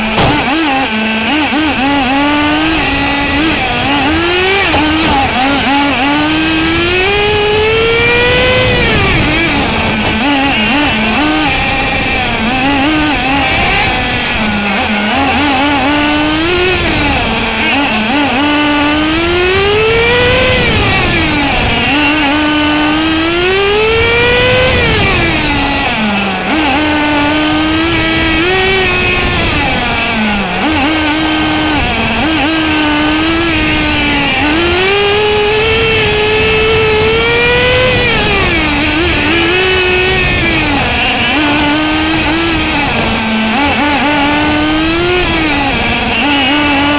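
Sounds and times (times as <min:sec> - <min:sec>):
small nitro engine revving: 0:00.0 - 0:46.9.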